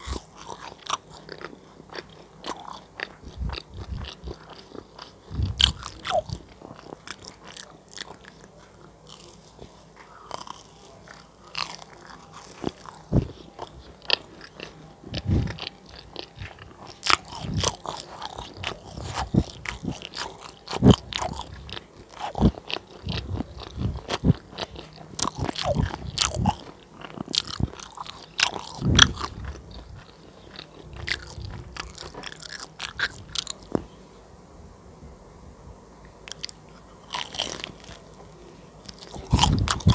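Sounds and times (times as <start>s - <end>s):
crunchy biting and chewing: 0.0s - 33.8s, 36.3s - 38.2s, 38.8s - 39.9s.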